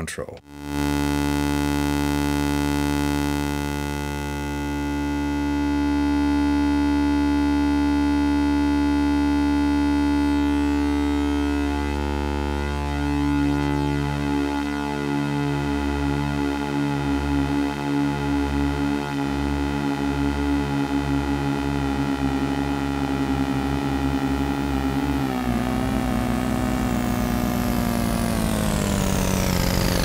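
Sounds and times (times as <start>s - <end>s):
synthesizer drone with echo: 0.0s - 30.0s.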